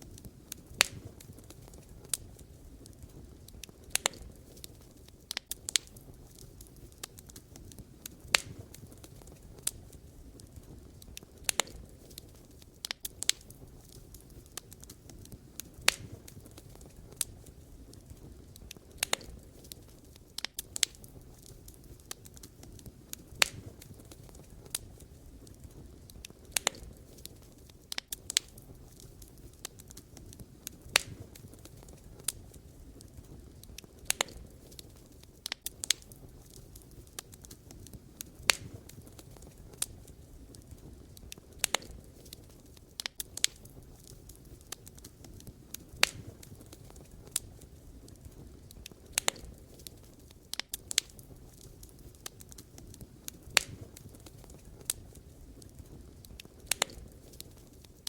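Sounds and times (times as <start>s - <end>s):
firewood popping and crackling: 0.0s - 58.0s
low rumble of flames: 0.0s - 58.0s.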